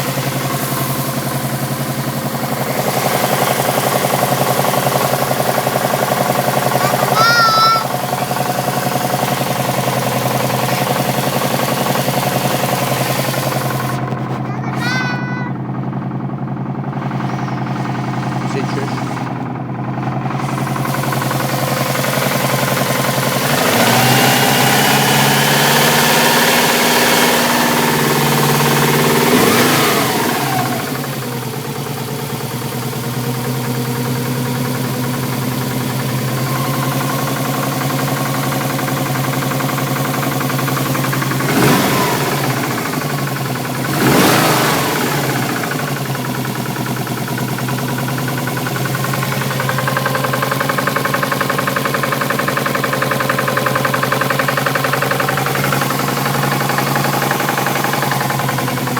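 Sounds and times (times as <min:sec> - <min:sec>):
car engine knocking and revving: 0:00.0 - 0:58.9.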